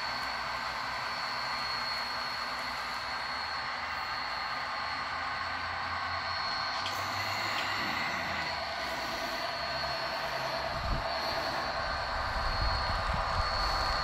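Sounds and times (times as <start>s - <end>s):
model train wheels and motors hiss: 0.0s - 14.0s.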